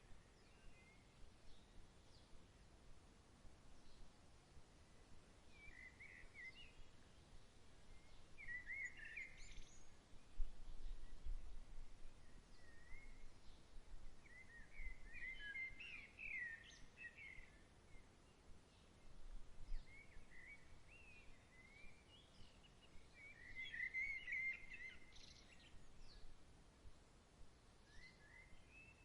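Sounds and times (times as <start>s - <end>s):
songbirds chirping and warbling: 0.0s - 2.8s, 3.6s - 29.0s
faint outdoor background: 0.0s - 29.0s.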